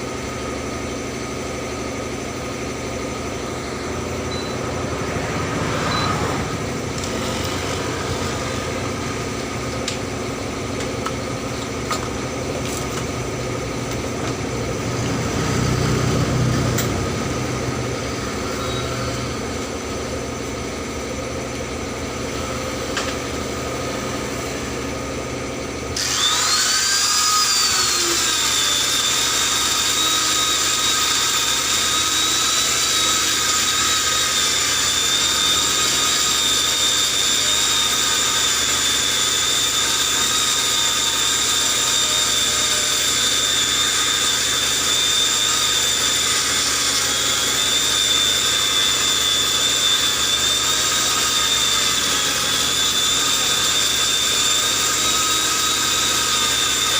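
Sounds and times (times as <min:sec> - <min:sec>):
power tool high whine: 0:00.0 - 0:56.9.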